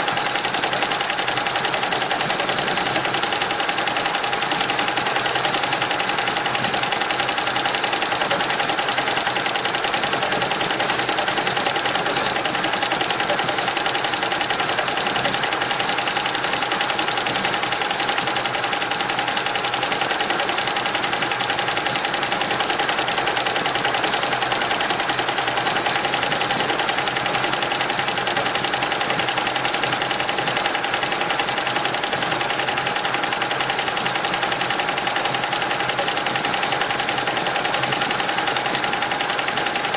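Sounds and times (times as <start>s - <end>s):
embroidery machine clattering: 0.0s - 39.9s.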